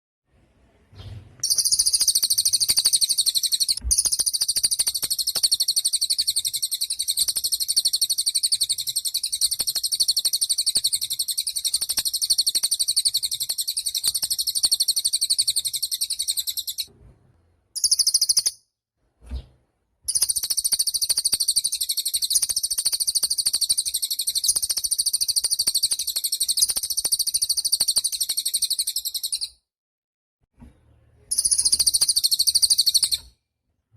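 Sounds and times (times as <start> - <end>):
songbird singing high-pitched trill: 1.4 - 16.9, 17.8 - 18.5, 20.1 - 29.5, 31.3 - 33.2.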